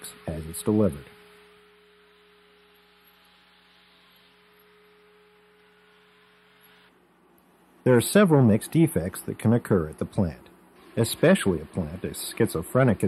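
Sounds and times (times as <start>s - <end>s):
faint electrical hum: 0.0s - 13.0s
light hiss: 0.0s - 13.0s.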